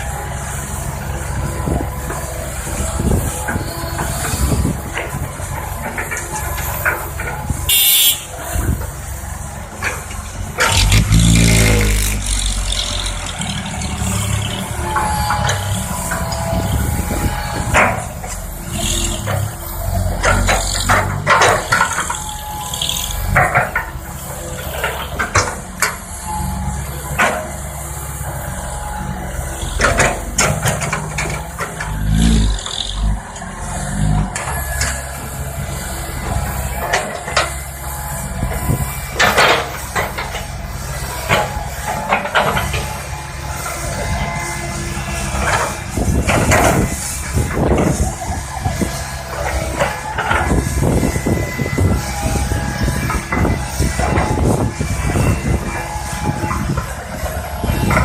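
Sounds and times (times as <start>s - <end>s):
excavator diesel engine revving: 0.0s - 58.0s.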